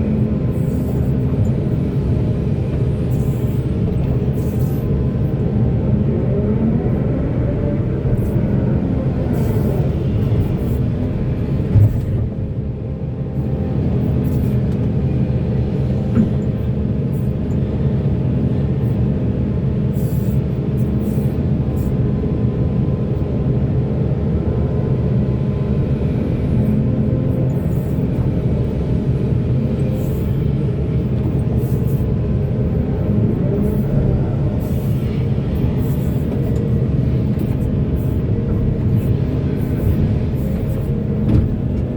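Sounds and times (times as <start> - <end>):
diesel machinery rumbling: 0.0 - 41.9.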